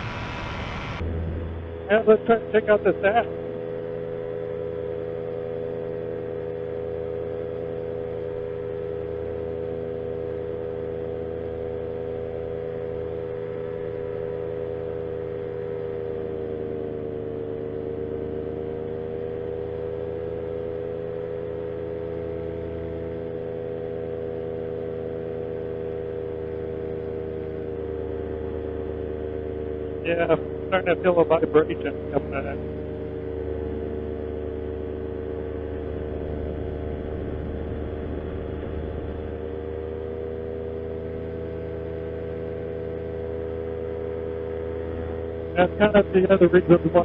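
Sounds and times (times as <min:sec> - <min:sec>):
paramotor engine and propeller: 0:00.0 - 0:47.0.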